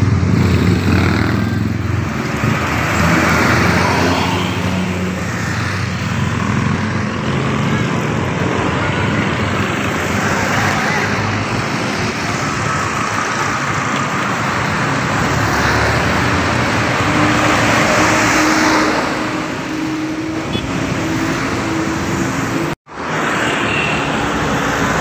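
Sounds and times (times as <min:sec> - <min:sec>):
bus passing by: 0:00.0 - 0:25.0
road traffic passing: 0:00.0 - 0:25.0.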